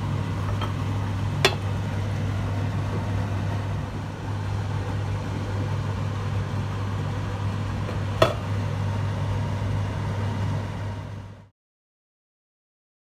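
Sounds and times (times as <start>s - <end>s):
low machine hum: 0.0s - 11.5s.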